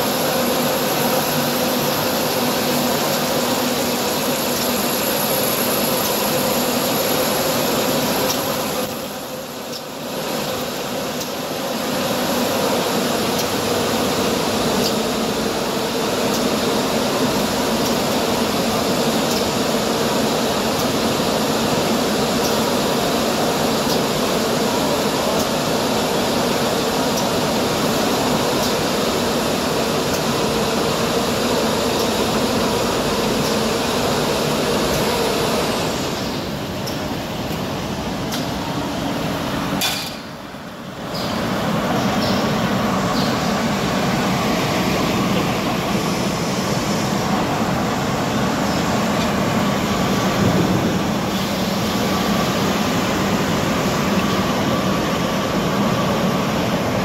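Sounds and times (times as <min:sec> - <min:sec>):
machine hum and hiss: 0:00.0 - 0:57.0.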